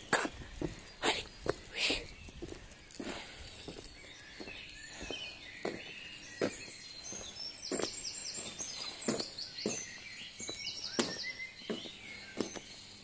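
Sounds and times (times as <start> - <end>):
footsteps: 0.0 - 12.7
songbirds singing: 0.0 - 13.0.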